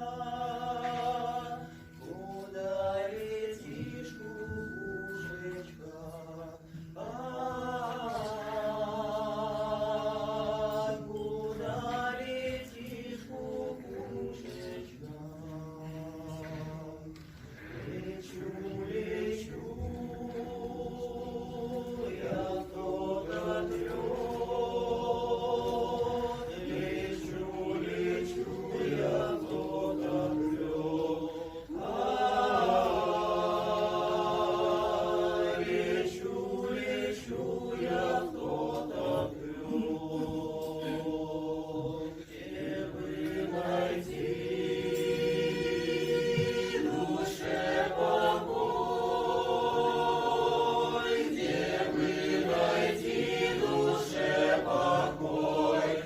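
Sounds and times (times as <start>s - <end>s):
folk vocal ensemble singing: 0.0s - 56.0s.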